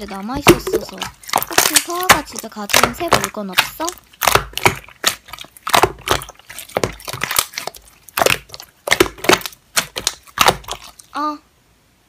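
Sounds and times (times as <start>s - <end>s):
wet slime pops and crackles: 0.0s - 11.1s.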